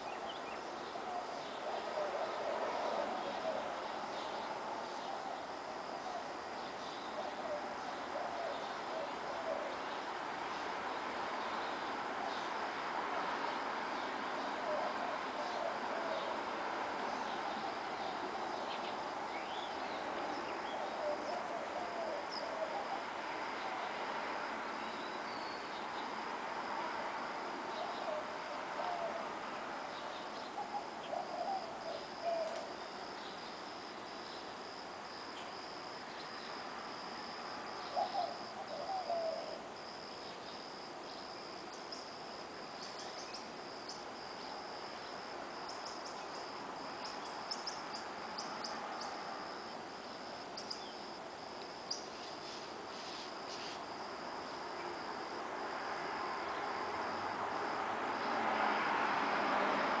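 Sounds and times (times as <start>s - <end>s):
crickets trilling: 0.0s - 60.0s.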